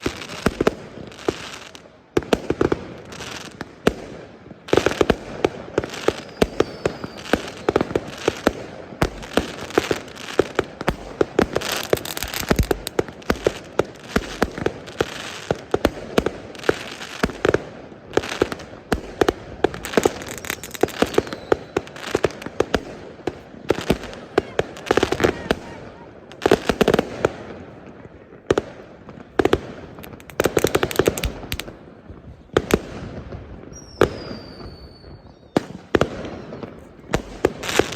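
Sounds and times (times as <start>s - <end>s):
fireworks and firecrackers bangs: 0.0s - 37.9s.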